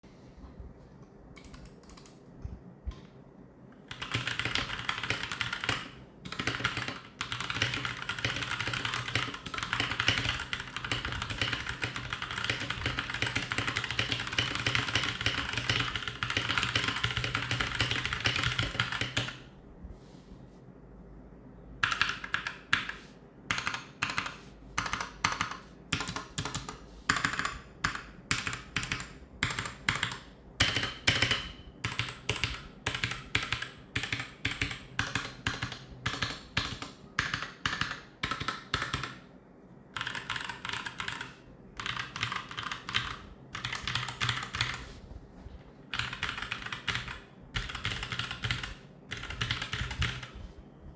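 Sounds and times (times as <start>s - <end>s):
mechanical keyboard keys pressed: 1.4s - 2.2s, 3.9s - 19.4s, 21.8s - 39.2s, 40.0s - 44.9s, 45.9s - 50.4s.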